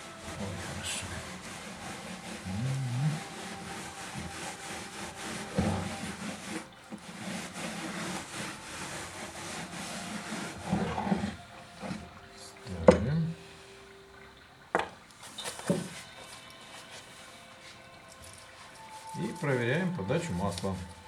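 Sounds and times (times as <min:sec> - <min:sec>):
rubbing and scraping on chainsaw housing: 0:00.0 - 0:13.7, 0:14.8 - 0:21.0.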